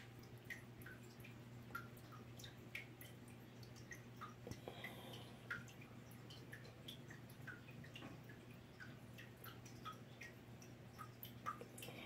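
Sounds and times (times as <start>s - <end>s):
low steady hum: 0.0s - 12.0s
water drips and plinks: 0.0s - 12.0s.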